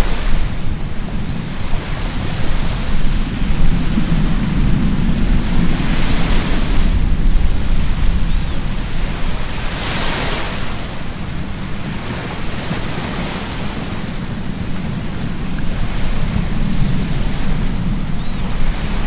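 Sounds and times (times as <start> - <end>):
ocean surf washing on beach: 0.0 - 19.0
wind buffeting microphone: 0.0 - 19.0.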